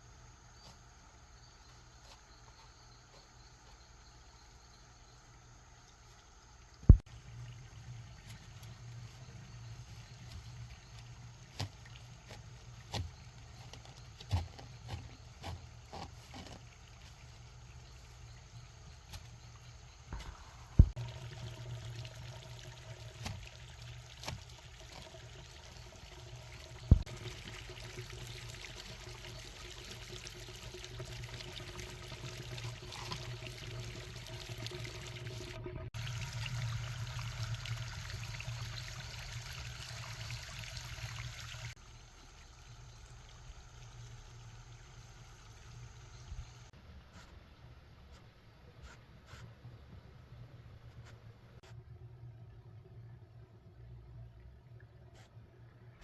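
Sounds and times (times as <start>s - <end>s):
water pouring and trickling: 0.8s - 46.8s.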